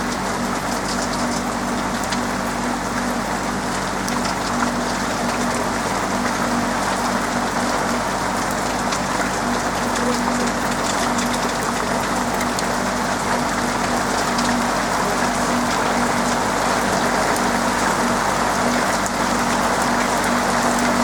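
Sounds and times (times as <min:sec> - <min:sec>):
rain on a roof: 0:00.0 - 0:21.0.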